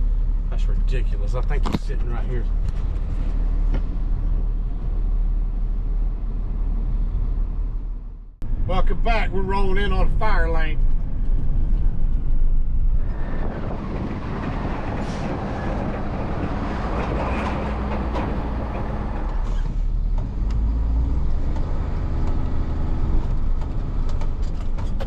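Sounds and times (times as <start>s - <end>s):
road and wind rush: 0.0s - 25.0s.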